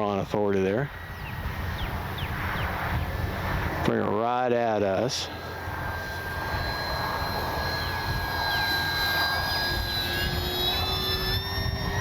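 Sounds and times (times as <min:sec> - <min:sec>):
model plane motor whining: 0:00.0 - 0:04.2, 0:04.8 - 0:12.0
wind rumbling on microphone: 0:00.0 - 0:12.0.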